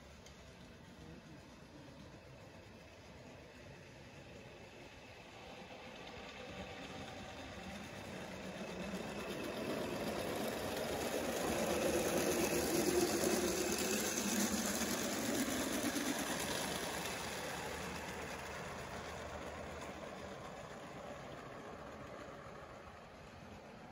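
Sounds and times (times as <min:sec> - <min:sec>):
model steam locomotive running: 0:00.0 - 0:23.9
wheels on rails: 0:00.0 - 0:23.9.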